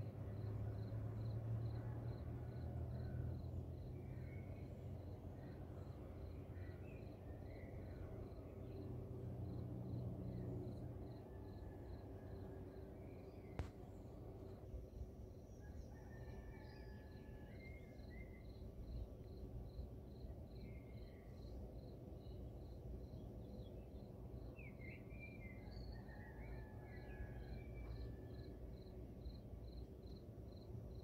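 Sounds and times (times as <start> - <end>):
cricket chirping: 0.0 - 31.0
faint low rumble: 0.0 - 31.0.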